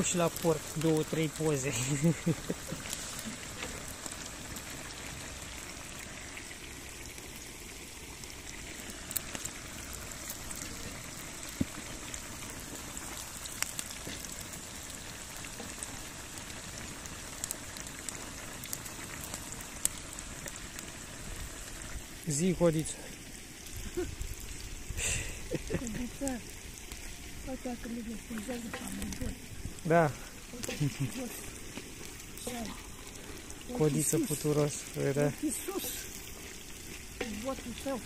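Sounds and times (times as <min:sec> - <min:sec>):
pork fat sizzling in boiling water: 0:00.0 - 0:38.0.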